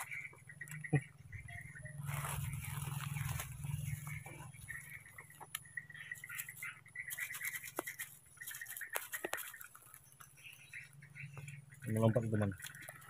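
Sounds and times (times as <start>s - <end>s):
monkeys rustling and scratching: 1.5s - 13.0s.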